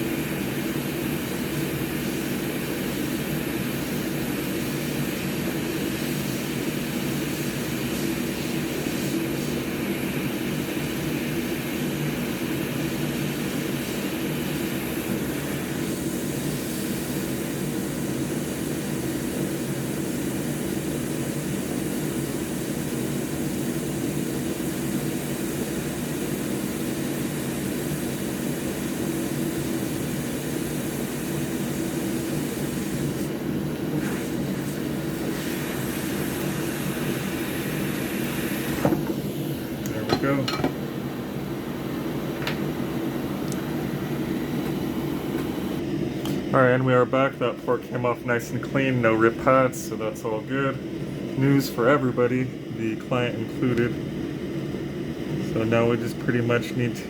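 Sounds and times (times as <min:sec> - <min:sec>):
hot-air rework station hissing: 0:00.0 - 0:57.0.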